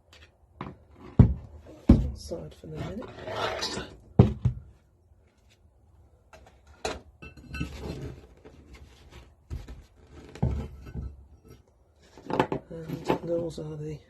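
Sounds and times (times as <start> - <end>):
light scraping and rattling: 0.0 - 4.0, 6.3 - 13.7.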